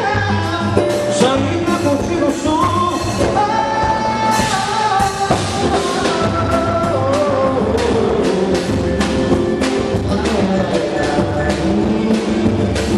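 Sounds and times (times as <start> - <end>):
drum kit and percussion beat: 0.0 - 12.9
live band playing: 0.0 - 12.9.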